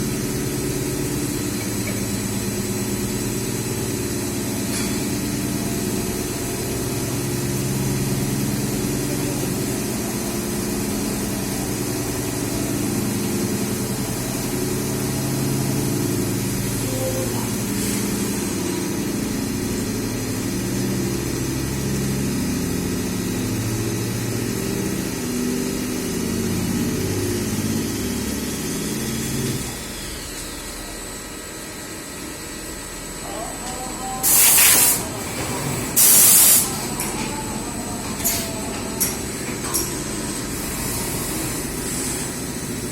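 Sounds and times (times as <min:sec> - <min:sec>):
machine motors humming: 0:00.0 - 0:42.9.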